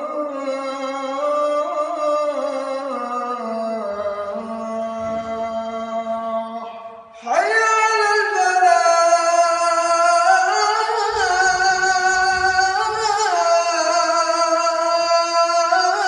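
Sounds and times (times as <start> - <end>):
person reciting melodically: 0.0 - 16.0.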